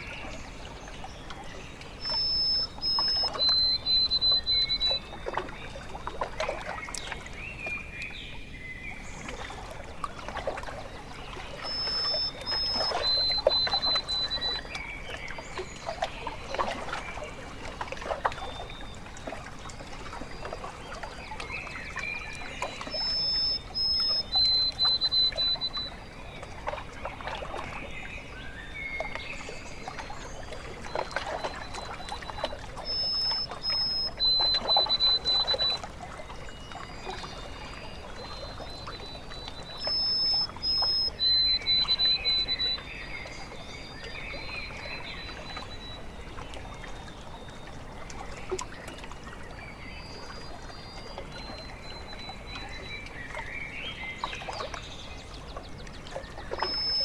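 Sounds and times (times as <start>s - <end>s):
bird song with trill: 0.0s - 57.0s
small waves lapping: 0.0s - 57.0s.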